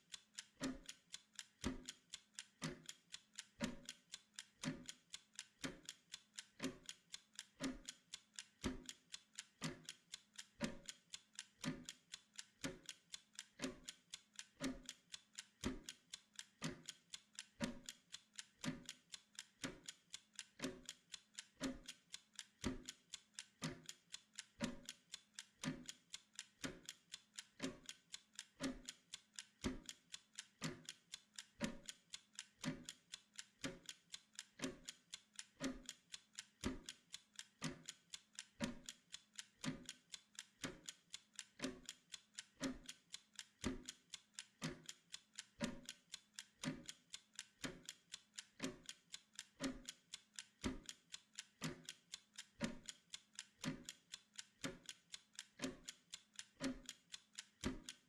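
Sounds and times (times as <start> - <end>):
timer ticking: 0.0 - 58.0.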